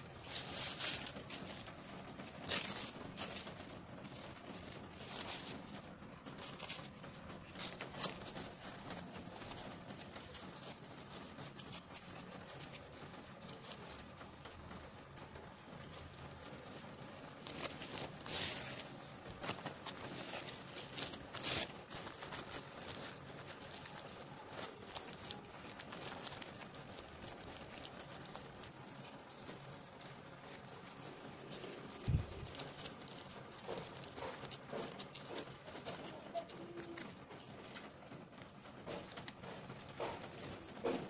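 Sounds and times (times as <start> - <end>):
plastic bag rustling and crinkling: 0.0 - 41.0.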